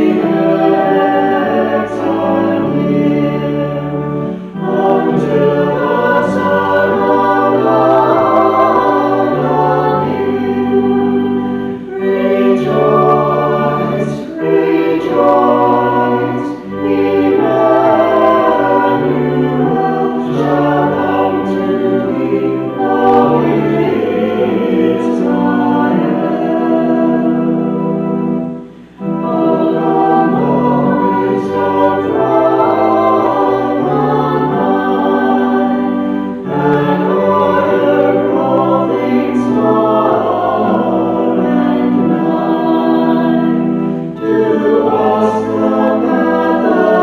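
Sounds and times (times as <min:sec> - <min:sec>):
choir singing a hymn: 0:00.0 - 0:47.0
held bass accompaniment notes: 0:00.0 - 0:47.0.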